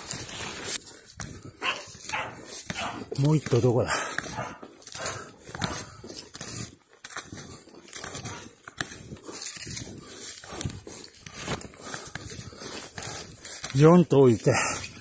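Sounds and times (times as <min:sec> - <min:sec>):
footsteps crunching in snow: 0:00.0 - 0:15.0
twigs and brush rustling: 0:00.0 - 0:15.0.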